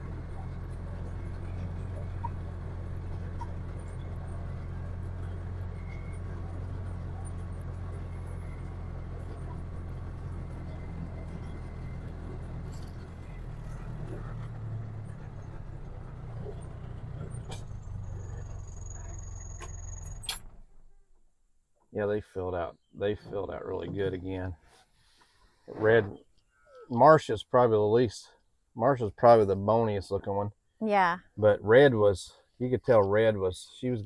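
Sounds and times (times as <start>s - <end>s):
vehicle engine humming: 0.0s - 21.3s, 22.0s - 26.2s, 31.4s - 34.0s.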